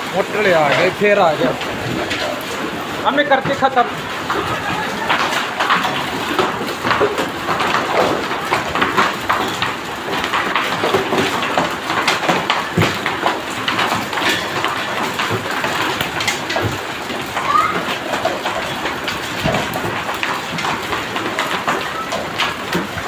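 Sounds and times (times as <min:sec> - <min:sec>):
heavy rain and hail on hard surfaces: 0:00.0 - 0:23.0.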